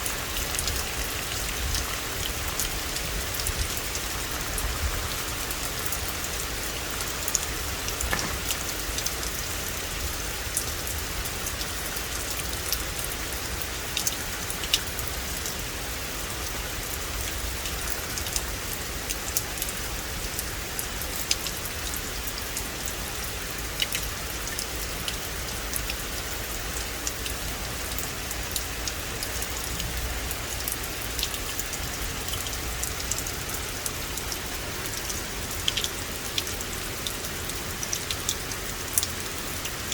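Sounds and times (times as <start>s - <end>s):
rain pattering on foliage: 0.0s - 39.9s.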